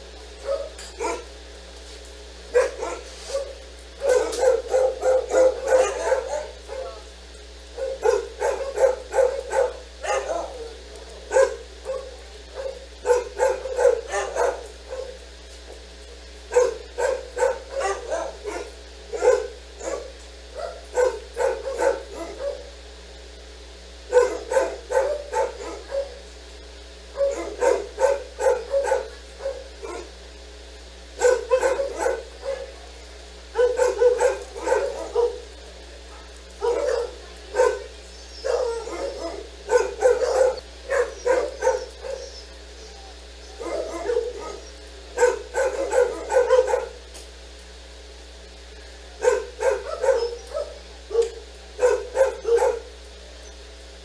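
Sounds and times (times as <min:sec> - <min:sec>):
low steady hum: 0:00.0 - 0:54.0
dog barking: 0:00.4 - 0:01.4, 0:02.5 - 0:15.3, 0:16.5 - 0:22.8, 0:24.0 - 0:26.3, 0:27.1 - 0:30.2, 0:31.1 - 0:47.1, 0:49.0 - 0:53.6.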